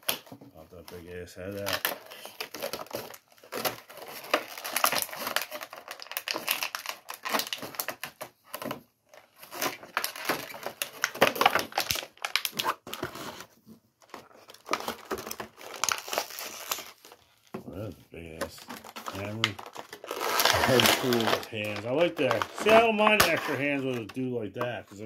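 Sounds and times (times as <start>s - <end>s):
plastic bag crinkling: 0.0s - 17.5s, 18.5s - 24.0s.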